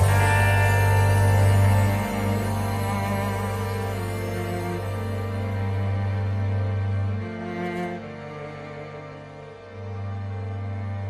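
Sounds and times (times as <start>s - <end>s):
slow sad instrumental music: 0.0s - 11.0s.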